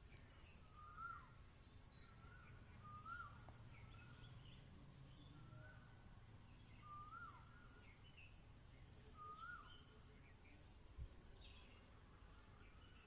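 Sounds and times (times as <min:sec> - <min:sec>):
small birds calling: 0:00.0 - 0:13.0.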